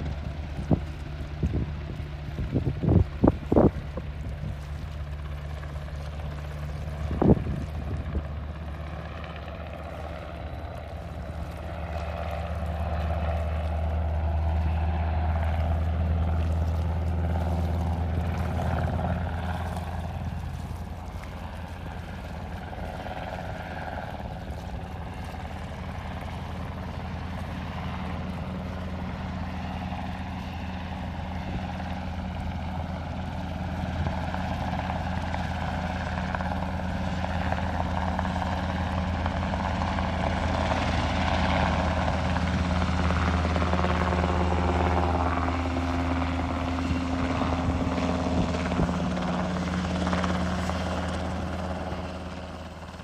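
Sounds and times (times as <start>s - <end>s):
distant helicopter drone: 0.0s - 53.0s.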